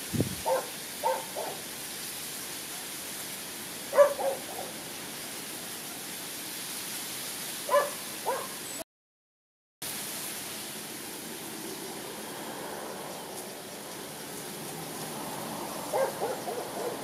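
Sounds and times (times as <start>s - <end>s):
steady hiss: 0.0s - 8.8s, 9.8s - 17.0s.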